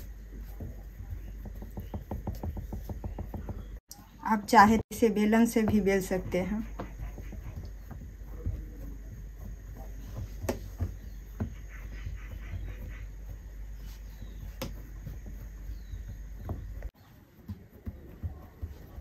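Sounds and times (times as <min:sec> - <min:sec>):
hands patting dough: 0:00.0 - 0:19.0.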